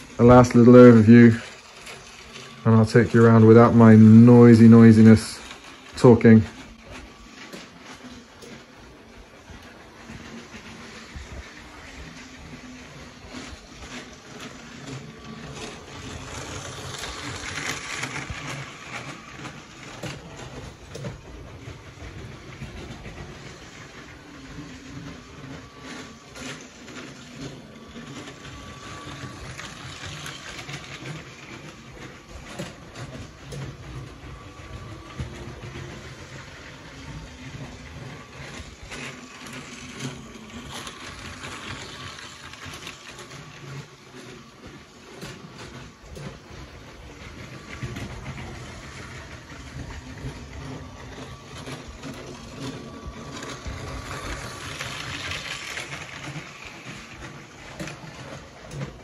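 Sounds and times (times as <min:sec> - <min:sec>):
toy train motor hum: 0:00.0 - 0:59.0.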